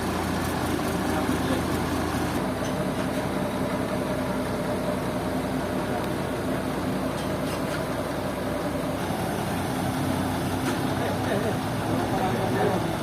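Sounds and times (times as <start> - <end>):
heavy machinery engine running: 0.0 - 13.0.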